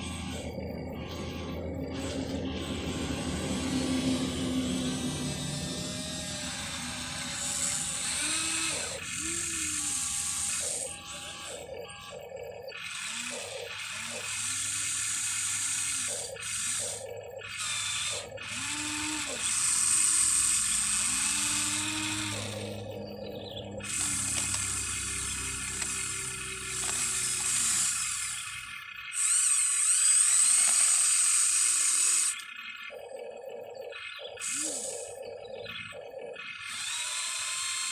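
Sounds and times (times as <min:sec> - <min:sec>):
small electric motors whirring: 0:00.0 - 0:37.9.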